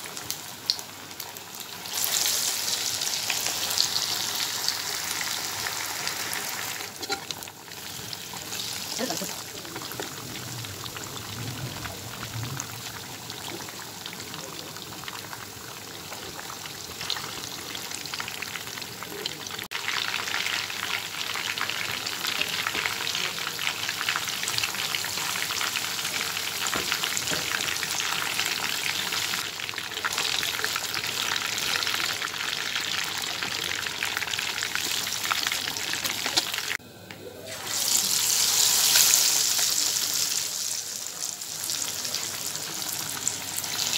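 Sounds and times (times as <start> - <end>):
fish deep-frying in hot oil: 0.0 - 36.8, 37.5 - 43.9.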